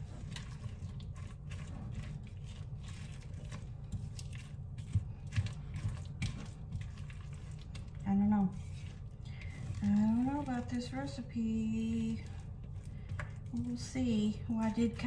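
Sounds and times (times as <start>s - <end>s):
spatula stirring thick batter: 0.0s - 15.0s
steady low hum: 0.0s - 15.0s.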